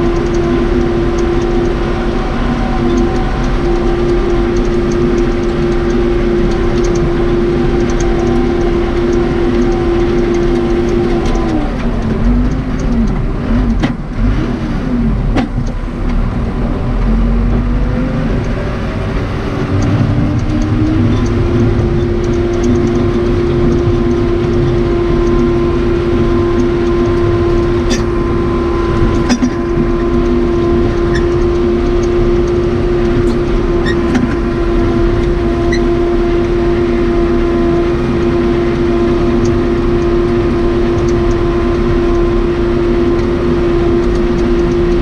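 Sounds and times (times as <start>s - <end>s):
diesel engine running hard: 0.0s - 45.0s.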